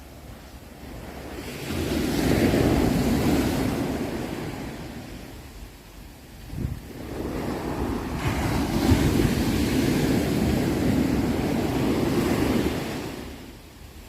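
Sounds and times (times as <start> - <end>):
ocean wave breaking: 0.0 - 5.8, 6.4 - 13.7.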